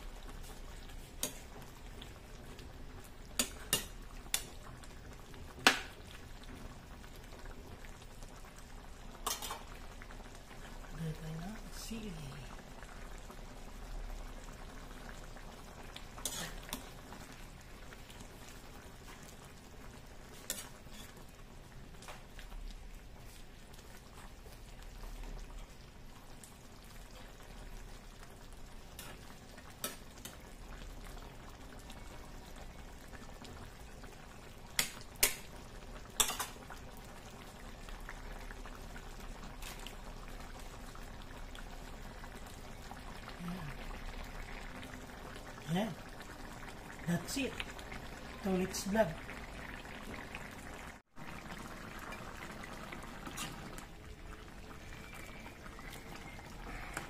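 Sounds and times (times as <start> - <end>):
broth boiling in metal pan: 0.0 - 57.0.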